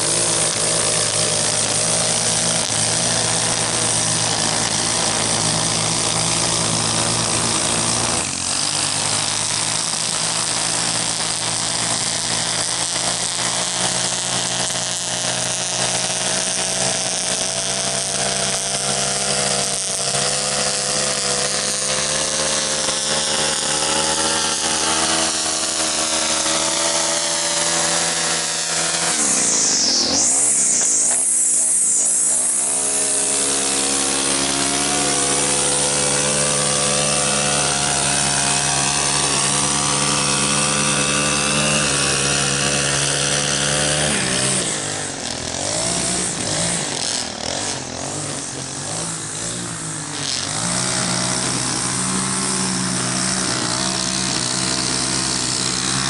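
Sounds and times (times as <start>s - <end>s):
string trimmer engine running: 0.0s - 56.0s.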